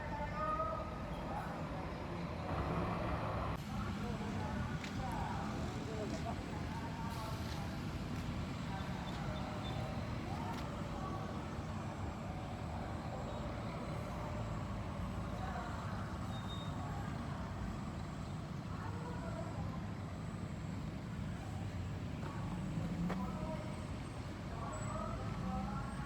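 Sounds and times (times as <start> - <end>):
faint voices: 0.0 - 26.0
bus diesel engine running: 0.8 - 26.0.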